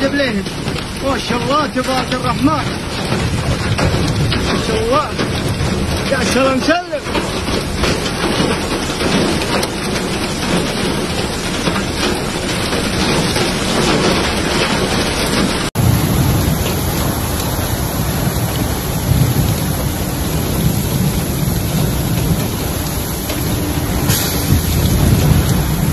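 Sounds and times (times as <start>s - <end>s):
deep thunder rumble: 0.0s - 25.9s
heavy rain: 0.0s - 25.9s.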